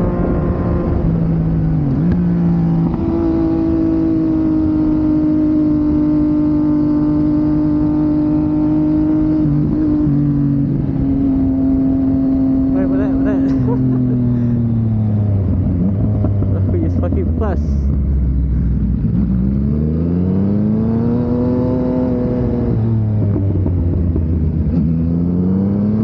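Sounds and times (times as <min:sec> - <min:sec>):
motorcycle engine changing gears: 0:00.0 - 0:26.0.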